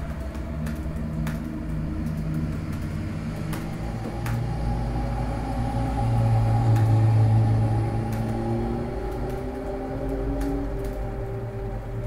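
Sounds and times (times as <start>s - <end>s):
bus engine humming: 0.0s - 12.0s
street traffic: 0.0s - 12.0s.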